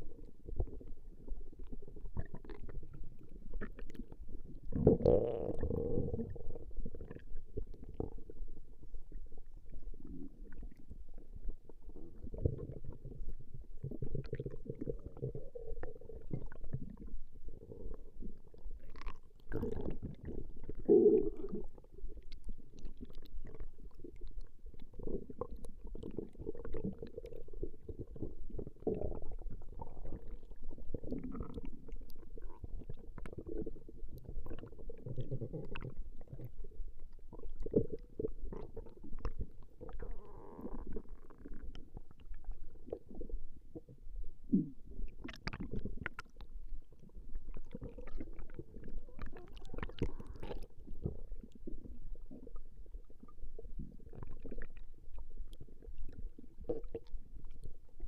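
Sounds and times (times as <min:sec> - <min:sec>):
stomach growling and gurgling: 0:00.0 - 0:58.0.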